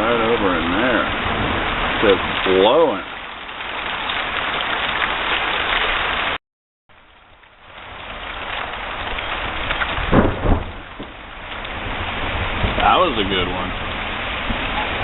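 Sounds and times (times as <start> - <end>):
thunder clap and rumble: 0.0 - 6.4, 7.6 - 15.0
heavy rain hissing: 0.0 - 15.0.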